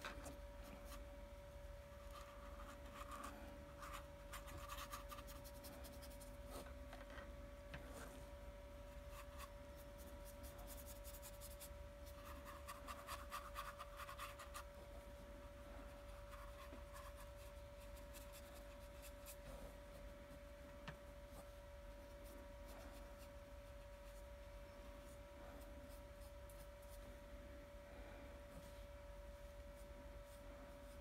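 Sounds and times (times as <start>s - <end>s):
faint hum: 0.0s - 31.0s.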